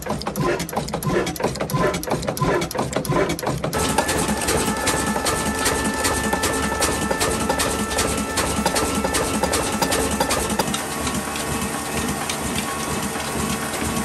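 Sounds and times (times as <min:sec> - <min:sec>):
diesel engine knocking: 0:00.0 - 0:14.0.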